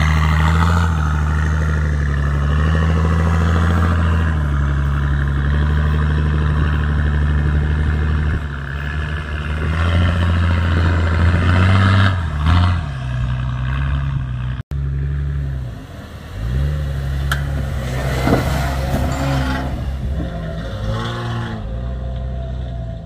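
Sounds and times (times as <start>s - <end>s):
vehicle engine revving: 0.0s - 23.0s.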